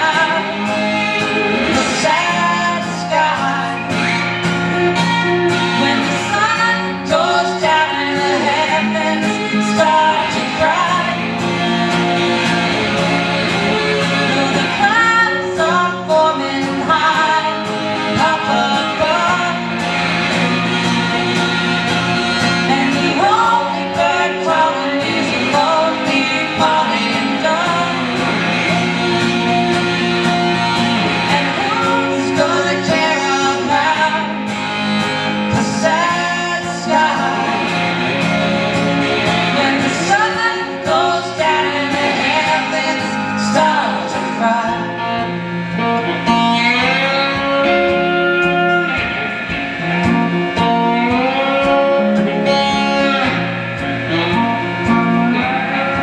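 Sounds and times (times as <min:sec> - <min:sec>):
acoustic and electric guitars: 0:00.0 - 0:56.0
person singing: 0:00.0 - 0:56.0.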